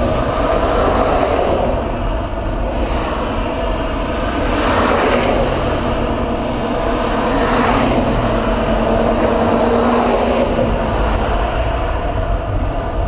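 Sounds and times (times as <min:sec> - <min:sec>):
boat engine running: 0:00.0 - 0:13.0
water wash: 0:00.0 - 0:13.0
wind: 0:00.0 - 0:13.0.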